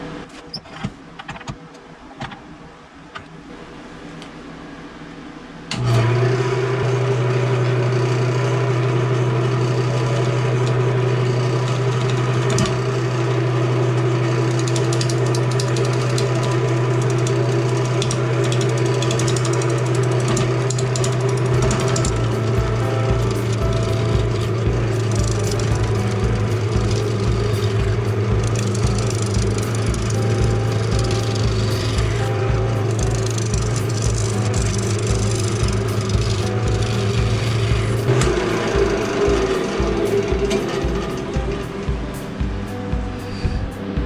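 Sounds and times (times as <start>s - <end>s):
wood lathe motor hum: 5.7s - 44.0s.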